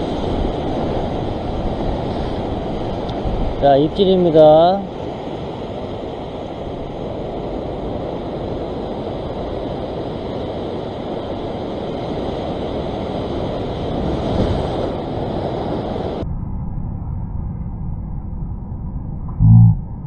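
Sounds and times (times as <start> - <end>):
ocean surf washing over rocks: 0.0 - 16.2.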